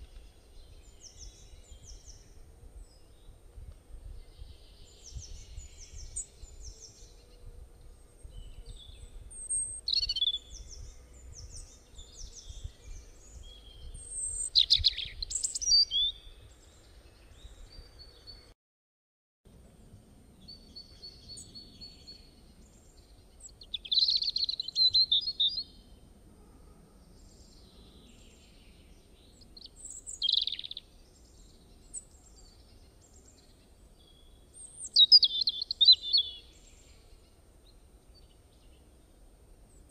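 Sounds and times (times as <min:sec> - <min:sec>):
small birds chirping: 0:00.0 - 0:18.5, 0:20.4 - 0:26.0, 0:27.1 - 0:39.9.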